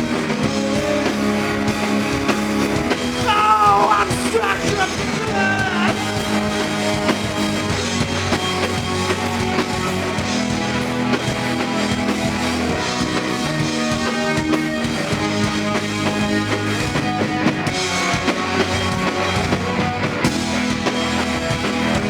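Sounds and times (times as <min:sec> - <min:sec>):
bass guitar: 0:00.0 - 0:22.0
drum kit: 0:00.0 - 0:22.0
electric guitar: 0:00.0 - 0:22.0.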